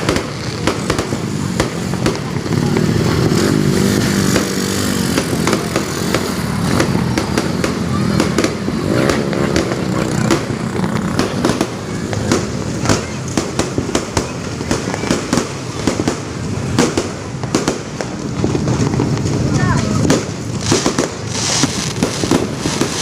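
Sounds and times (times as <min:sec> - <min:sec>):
firecrackers popping: 0:00.0 - 0:23.0.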